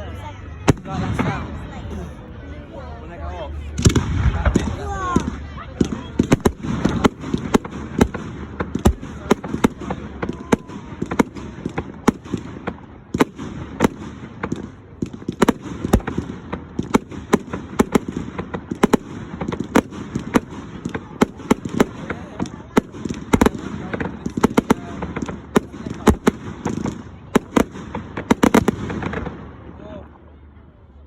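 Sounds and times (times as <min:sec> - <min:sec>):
fireworks bangs: 0:00.6 - 0:01.8, 0:03.8 - 0:29.8.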